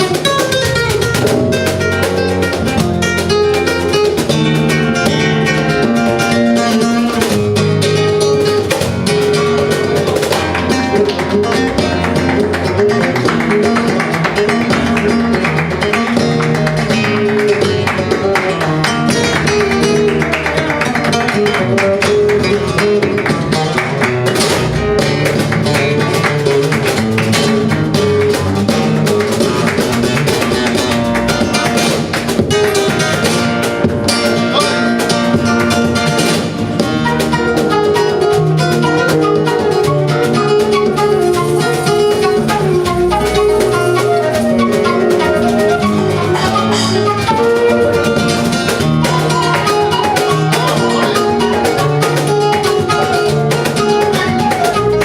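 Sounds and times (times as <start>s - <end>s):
flamenco guitar playing: 0.0s - 55.0s.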